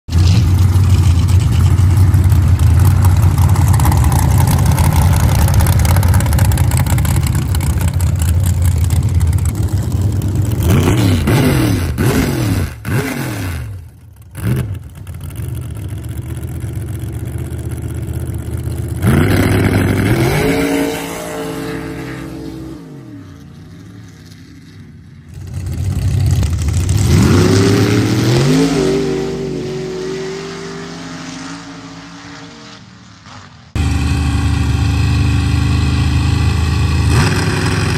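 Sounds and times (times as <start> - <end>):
truck engines revving: 0.1 - 37.9.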